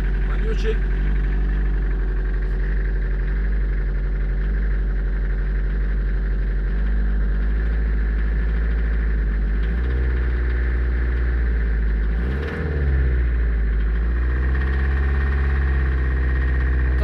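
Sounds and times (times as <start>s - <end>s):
van engine idling: 0.0s - 12.2s, 13.0s - 17.0s.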